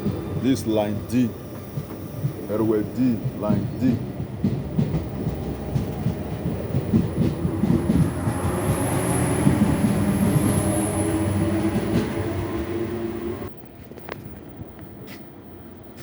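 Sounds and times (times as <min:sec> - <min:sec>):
train wheels rumbling and clattering: 0:00.0 - 0:13.5.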